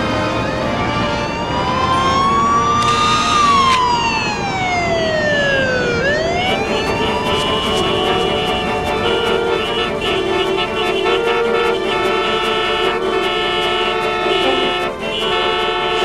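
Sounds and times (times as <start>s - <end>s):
background music: 0.0s - 16.0s
electronic siren-like wail: 0.0s - 16.0s.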